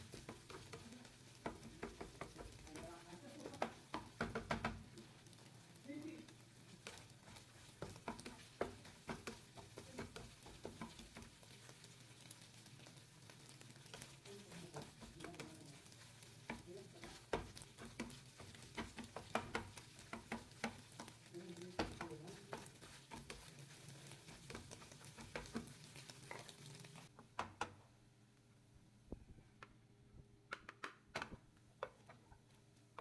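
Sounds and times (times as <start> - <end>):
spatula scraping frying pan: 0.0 - 5.6, 6.2 - 27.1
faint sizzle: 0.0 - 29.4.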